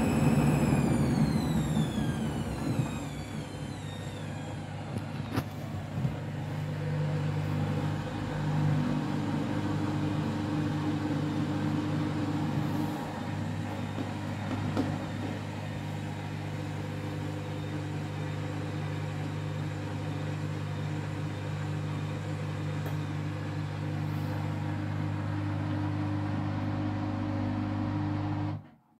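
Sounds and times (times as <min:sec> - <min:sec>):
washing machine humming: 0:00.0 - 0:28.8.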